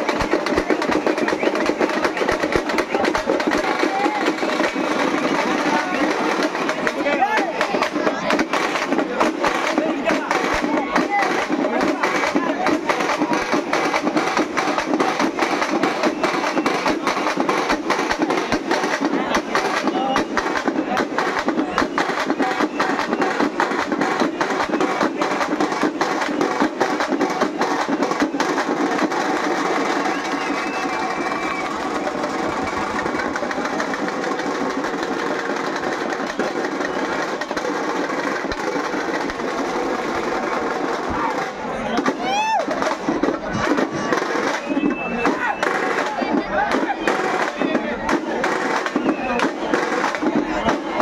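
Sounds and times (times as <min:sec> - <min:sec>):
drum band playing fast beat: 0:00.0 - 0:51.0.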